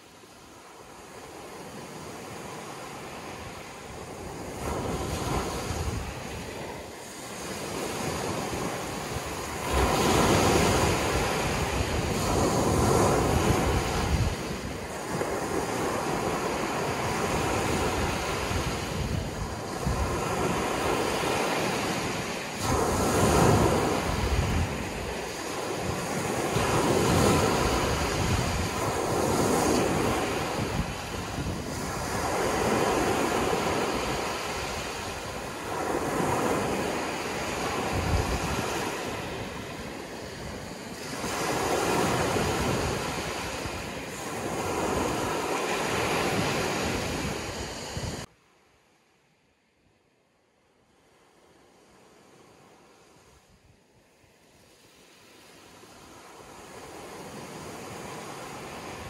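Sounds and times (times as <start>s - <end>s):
ocean waves washing in and out: 0.0s - 59.0s.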